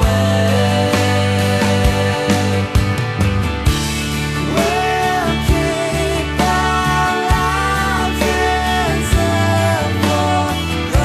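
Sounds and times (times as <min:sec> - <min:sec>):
song with sustained chords: 0:00.0 - 0:11.0.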